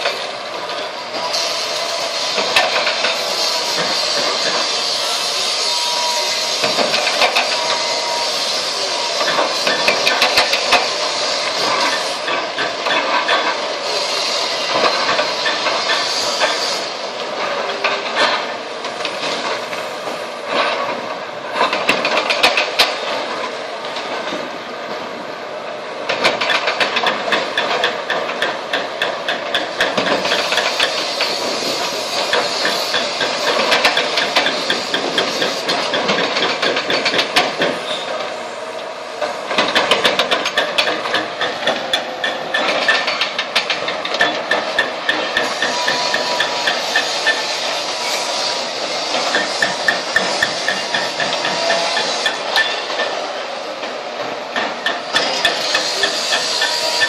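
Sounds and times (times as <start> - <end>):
demolition excavator working: 0.0 - 57.0.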